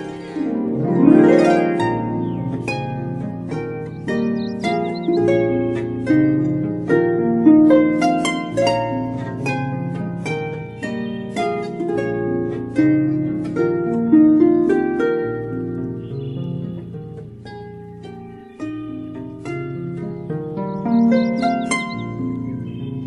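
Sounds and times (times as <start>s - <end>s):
harp-like plucked string music: 0.0s - 23.0s.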